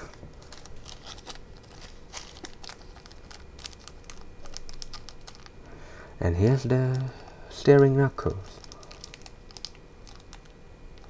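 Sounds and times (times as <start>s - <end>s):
plastic bags crinkling: 0.0s - 5.7s, 6.5s - 11.0s.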